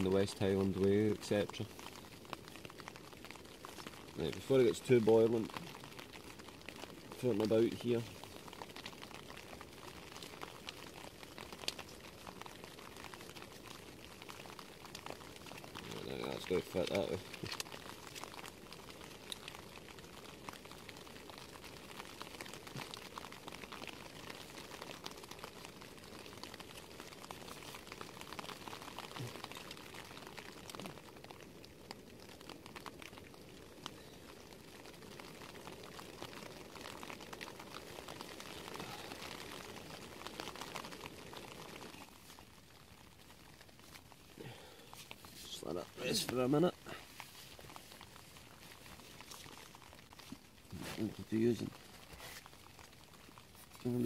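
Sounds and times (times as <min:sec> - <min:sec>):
water bubbling and crackling: 0:00.0 - 0:54.0.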